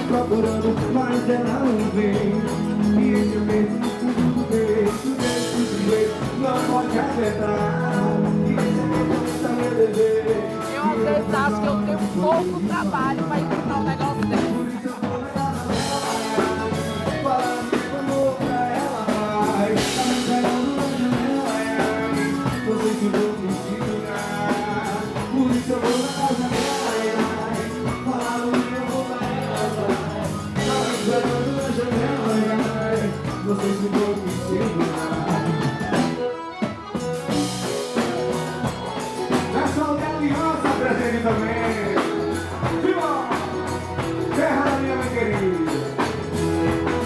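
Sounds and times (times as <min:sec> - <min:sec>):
accordion melody: 0:00.0 - 0:47.0
steady drum beat: 0:00.0 - 0:47.0.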